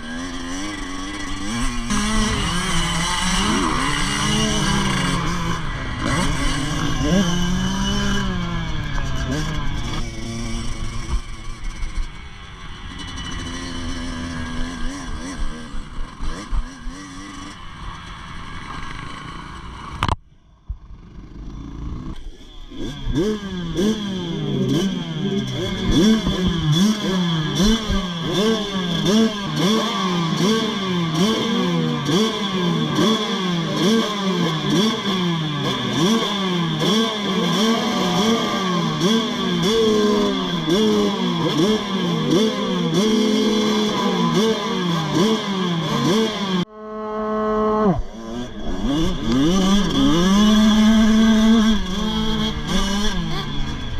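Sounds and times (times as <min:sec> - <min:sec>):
motocross bike engines revving: 0:00.0 - 0:20.2, 0:20.8 - 0:53.9.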